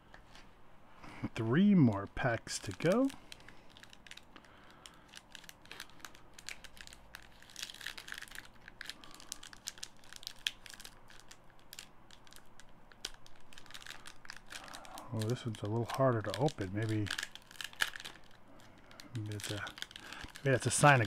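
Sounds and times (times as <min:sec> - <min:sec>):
wrapper crinkling: 0:01.8 - 0:21.0.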